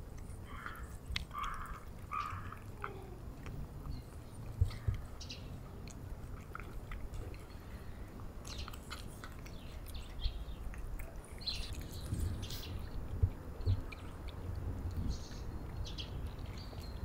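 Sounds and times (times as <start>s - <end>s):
cats chewing wet food: 0.0s - 17.0s.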